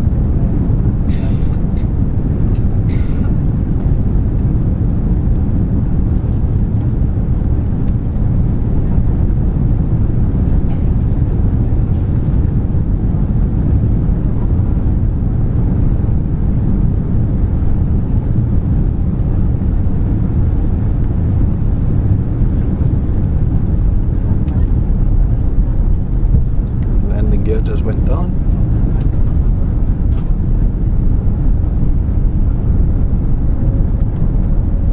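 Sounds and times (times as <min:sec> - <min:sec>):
jet cabin rumble: 0:00.0 - 0:34.9.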